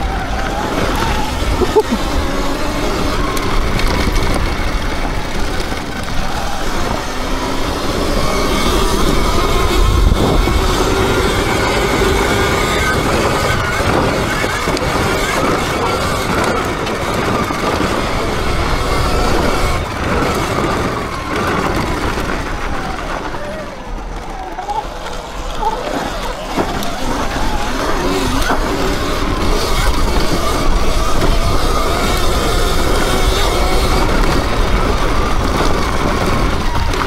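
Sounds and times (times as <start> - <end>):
electric motor whine: 0.0 - 37.0
wind and tyre noise: 0.0 - 37.0.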